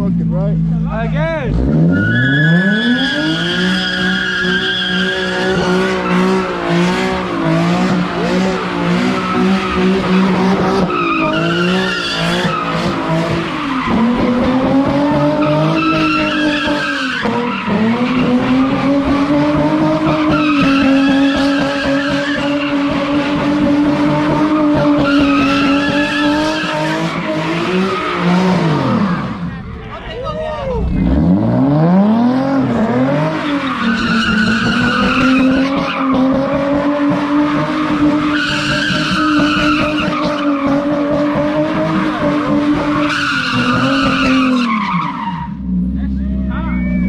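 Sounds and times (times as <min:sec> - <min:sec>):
tyres skidding and squealing: 0:00.0 - 0:47.0
car engine revving high: 0:01.5 - 0:29.7, 0:30.8 - 0:46.0.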